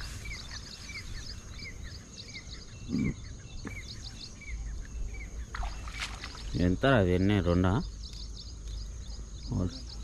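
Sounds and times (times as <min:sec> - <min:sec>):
short chirping calls: 0:00.0 - 0:10.0.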